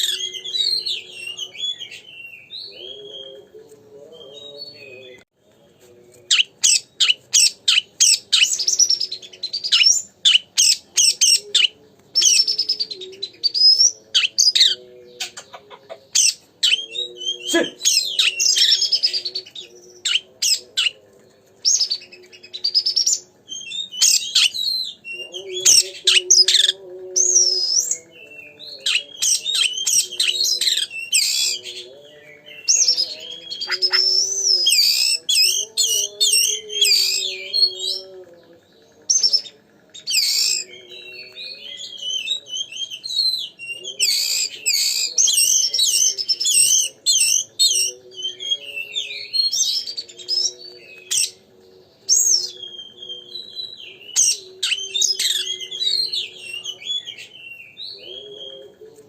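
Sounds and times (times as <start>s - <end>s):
songbird whistles and trills: 4.2s - 21.0s, 21.6s - 38.1s, 39.0s - 58.8s.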